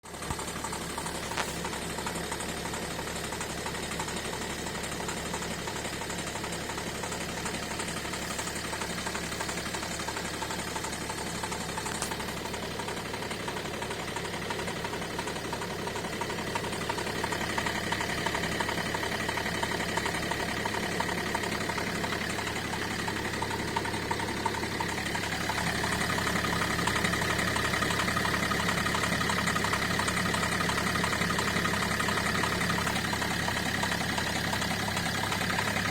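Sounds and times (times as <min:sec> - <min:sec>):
diesel engine running with knock: 0:00.0 - 0:35.9.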